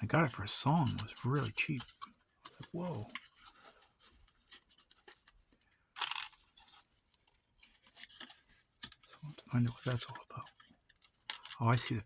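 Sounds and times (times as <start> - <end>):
faint clicks and taps: 0.8 - 12.0.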